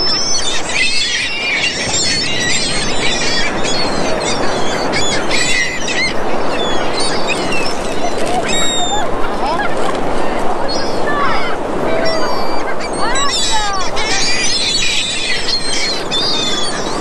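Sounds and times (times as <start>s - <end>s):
gulls calling: 0.0s - 17.0s
ocean surf rushing: 0.0s - 17.0s.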